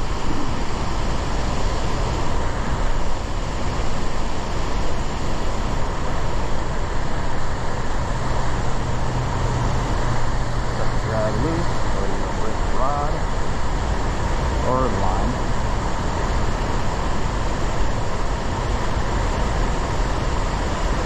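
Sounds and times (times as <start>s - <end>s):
low steady hum: 0.0s - 21.0s
steady rushing noise: 0.0s - 21.0s.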